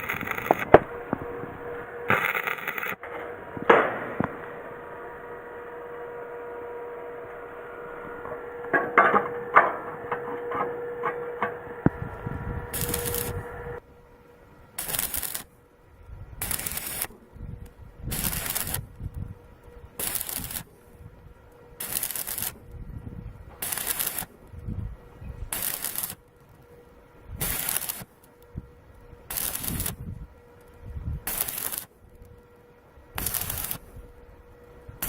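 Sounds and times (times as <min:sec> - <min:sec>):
welding arc crackling: 0:00.0 - 0:13.8, 0:14.6 - 0:35.0.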